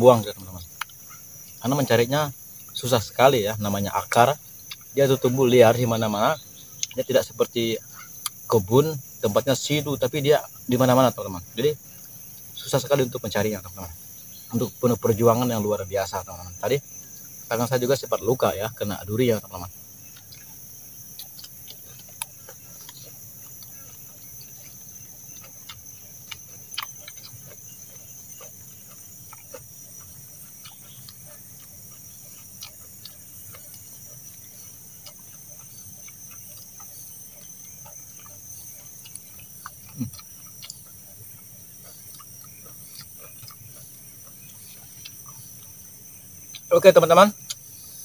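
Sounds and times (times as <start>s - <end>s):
forest insects droning: 0.0s - 48.0s
chewing: 0.2s - 48.0s.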